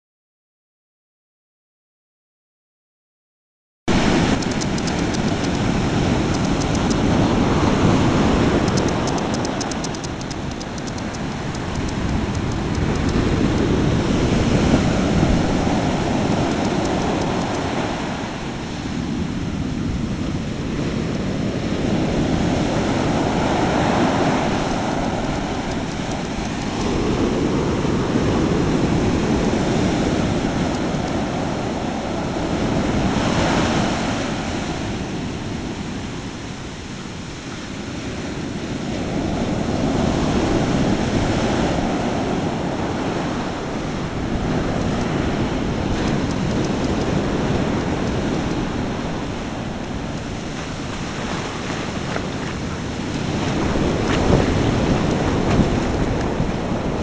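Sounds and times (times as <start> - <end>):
ocean surf breaking on beach: 3.9 - 57.0.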